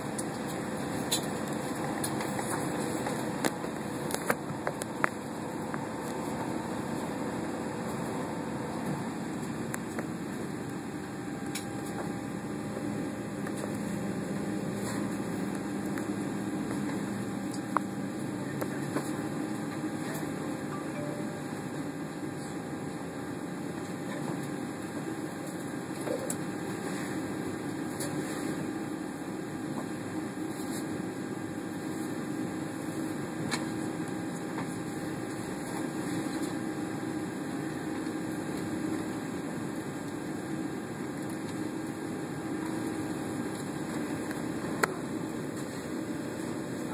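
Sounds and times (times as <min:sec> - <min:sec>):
airliner cabin hum and air rush: 0:00.0 - 0:46.9.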